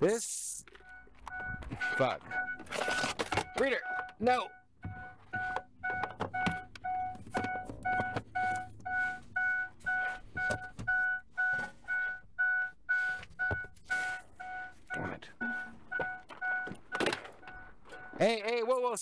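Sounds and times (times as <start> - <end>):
vehicle warning chime beeps: 0.2 - 19.0.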